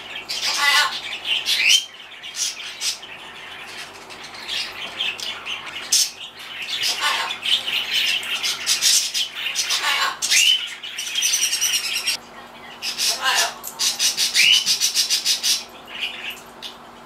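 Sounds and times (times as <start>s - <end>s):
macaw squawking: 0.2s - 16.4s.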